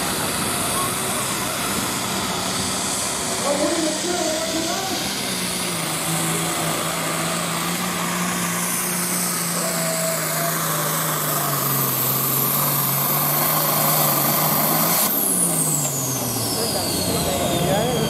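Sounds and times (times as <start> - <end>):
tractor diesel engine at full throttle: 0.0 - 18.0.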